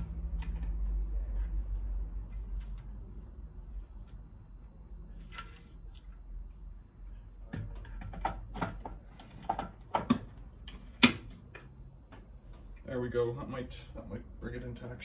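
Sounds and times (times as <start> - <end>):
high-pitched whine tones: 0.0 - 15.0
low electrical hum: 0.0 - 15.0.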